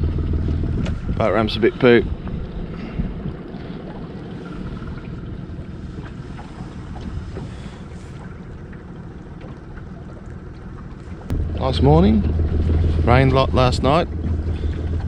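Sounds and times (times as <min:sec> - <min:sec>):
outboard motor rumbling: 0:00.0 - 0:15.0
wind buffeting microphone: 0:00.0 - 0:15.0.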